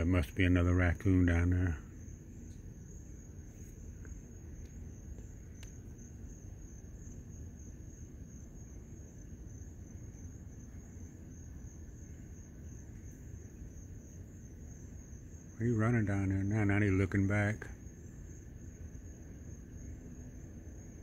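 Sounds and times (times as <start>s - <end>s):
low background rumble: 0.0s - 21.0s
night insects trilling: 0.0s - 21.0s.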